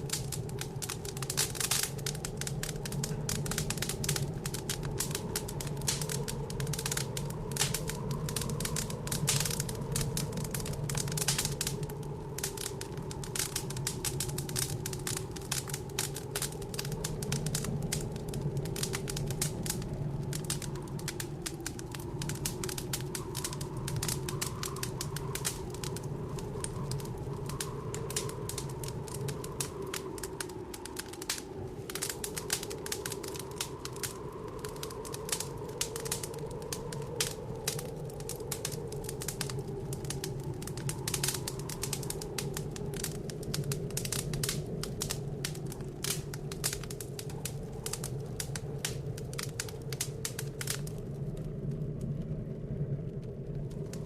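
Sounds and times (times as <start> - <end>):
blizzard wind howling: 0.0 - 54.0
wood fire crackling: 0.0 - 54.0.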